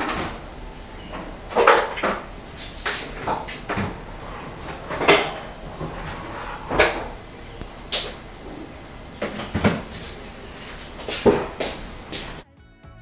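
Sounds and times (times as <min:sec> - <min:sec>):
kitchen knocks and clunks: 0:00.0 - 0:08.3, 0:09.1 - 0:10.4, 0:11.0 - 0:12.4.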